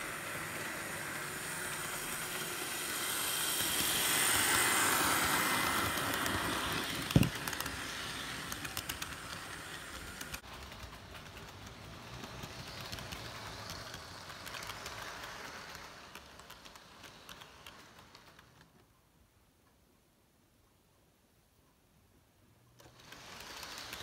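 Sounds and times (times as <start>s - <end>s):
model train wheels clicking: 0.0s - 19.0s, 22.8s - 24.0s.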